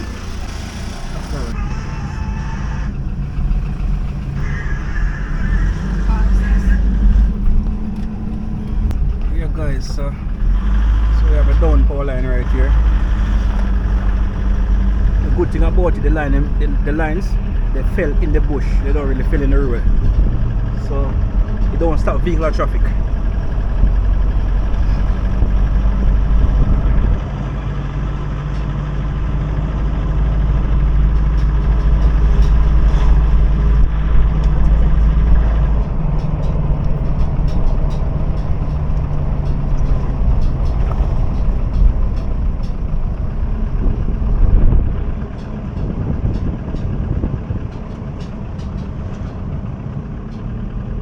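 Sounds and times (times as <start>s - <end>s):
vehicle engine rumbling: 0.0s - 51.0s.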